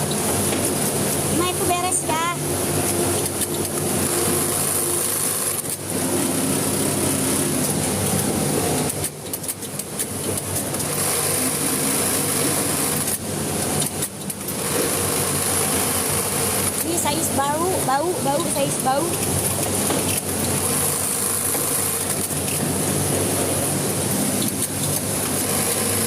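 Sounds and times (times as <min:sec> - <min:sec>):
sewing machine running: 0:02.4 - 0:09.2, 0:10.3 - 0:26.0.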